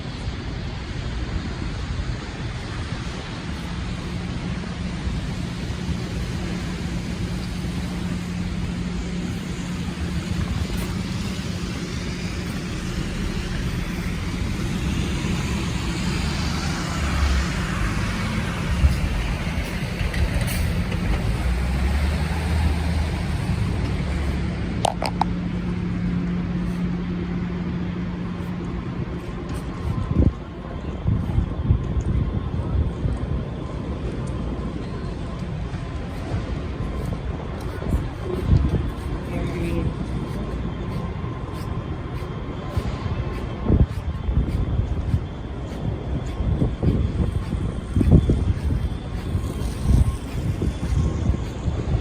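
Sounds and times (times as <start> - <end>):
street traffic passing: 0.0 - 52.0.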